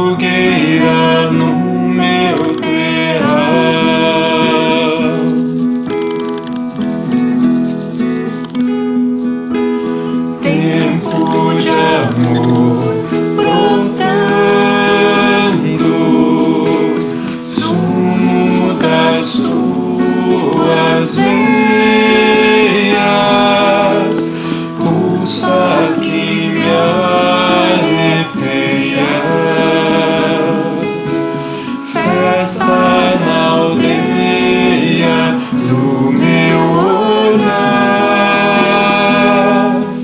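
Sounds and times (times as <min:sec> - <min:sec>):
choir singing: 0:00.0 - 0:05.4, 0:10.3 - 0:40.0
musical accompaniment: 0:00.0 - 0:40.0.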